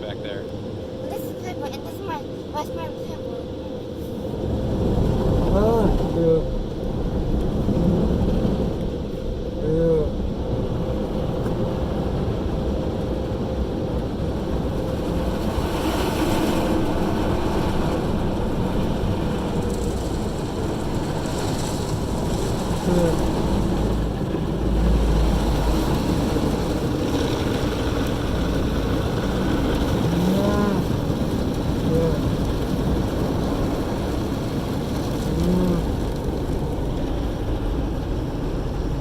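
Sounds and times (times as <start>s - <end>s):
car interior rumble: 4.4s - 13.0s, 13.8s - 39.0s.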